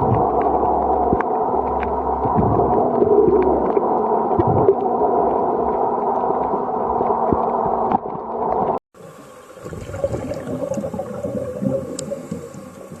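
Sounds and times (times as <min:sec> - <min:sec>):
underwater crackle and clicks: 0:00.0 - 0:13.0
underwater rushing: 0:00.0 - 0:13.0.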